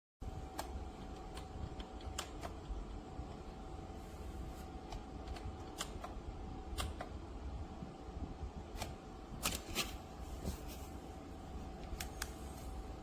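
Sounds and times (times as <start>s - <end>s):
air cooler fan humming: 0.2s - 13.0s.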